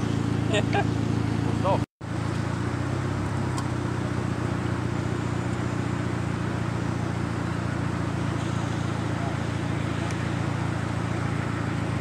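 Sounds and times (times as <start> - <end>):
road noise: 0.0 - 12.0
vehicle engines humming: 0.0 - 12.0.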